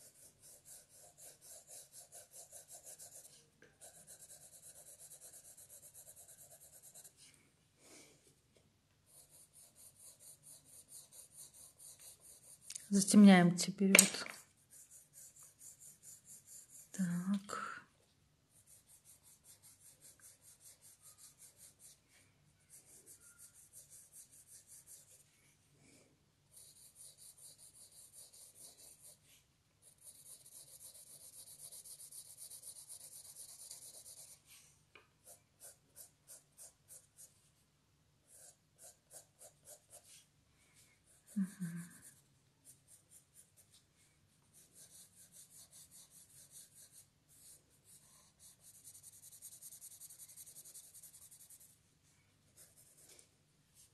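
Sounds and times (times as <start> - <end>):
pencil shading on paper: 0.0 - 7.2, 9.1 - 13.2, 14.4 - 17.4, 18.5 - 22.0, 22.6 - 25.3, 26.5 - 34.6, 35.2 - 37.4, 38.2 - 40.2, 41.1 - 43.8, 44.5 - 51.8, 52.5 - 53.2.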